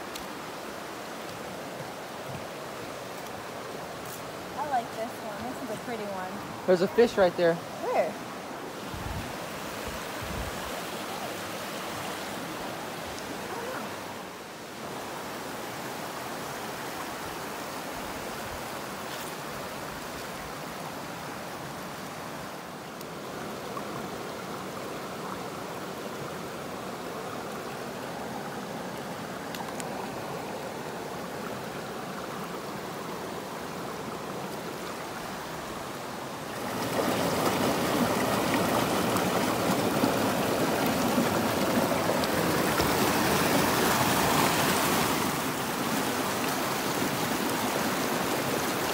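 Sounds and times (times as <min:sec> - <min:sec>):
stream water flowing over rocks: 0:00.0 - 0:48.9.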